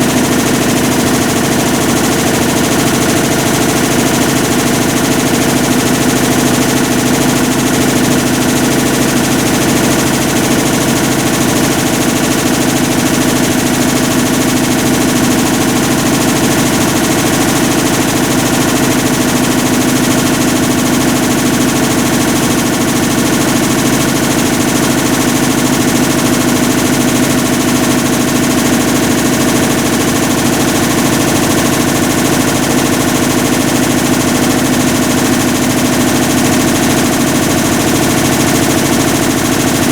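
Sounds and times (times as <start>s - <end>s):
washing machine rattling grind: 0.0s - 39.9s.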